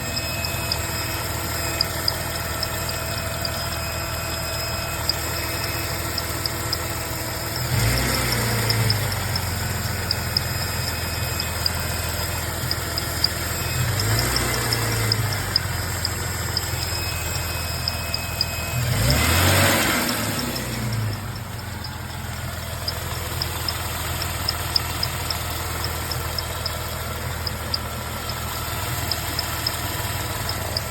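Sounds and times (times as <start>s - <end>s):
car engine idling: 0.0s - 30.9s
engine whining squeak: 0.0s - 30.9s.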